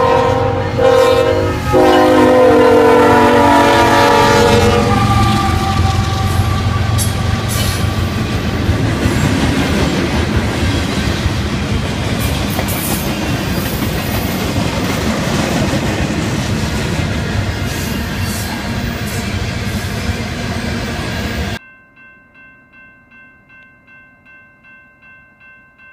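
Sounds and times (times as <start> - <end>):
locomotive passing: 0.0 - 21.6
train wheels rumbling on rails: 0.0 - 21.6.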